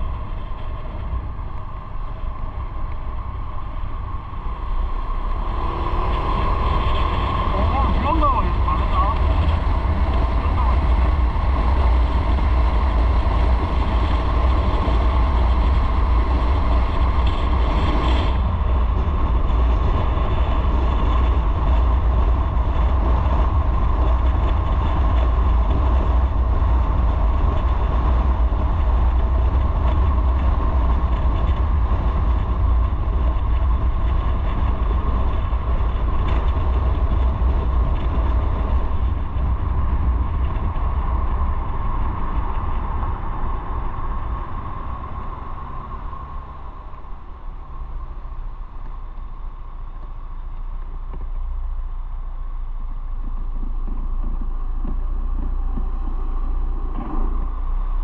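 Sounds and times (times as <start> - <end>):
motorcycle engine and road noise: 0.0 - 58.0
wind buffeting microphone: 0.0 - 58.0.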